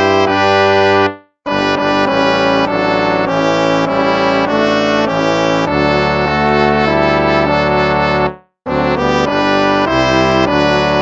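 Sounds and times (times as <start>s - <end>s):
instrumental hymn chords: 0.0s - 11.0s.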